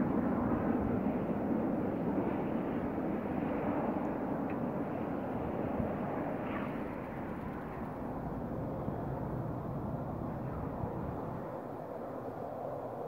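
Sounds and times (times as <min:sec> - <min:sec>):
distant aircraft engines droning: 0:00.0 - 0:13.0.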